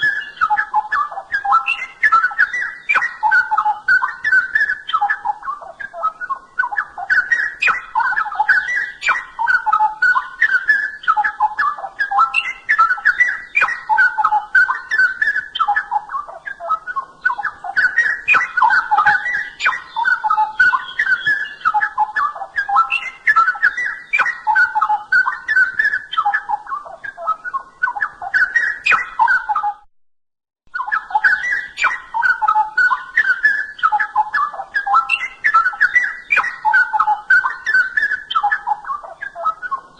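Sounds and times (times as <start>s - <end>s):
bird song warbling: 0.0s - 29.9s, 30.7s - 39.9s.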